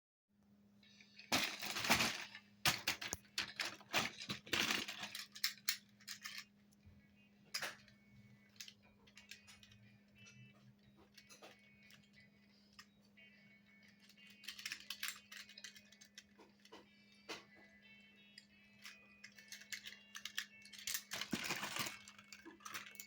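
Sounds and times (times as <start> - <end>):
toy vehicles clinking in a box: 1.0 - 6.5, 7.5 - 23.0.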